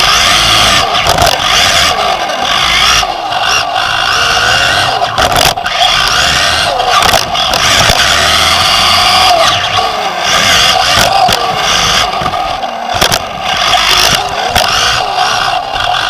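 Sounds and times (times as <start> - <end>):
electric motor whine: 0.0 - 16.0
tyre and chassis noise on dirt: 0.0 - 16.0.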